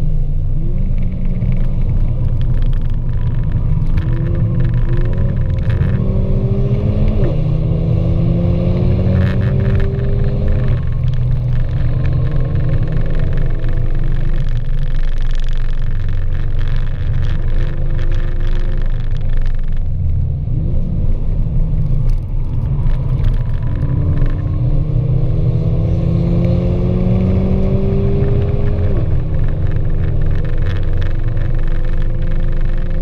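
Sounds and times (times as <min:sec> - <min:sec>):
car engine accelerating: 0:00.0 - 0:33.0
road and tyre rumble: 0:00.0 - 0:33.0.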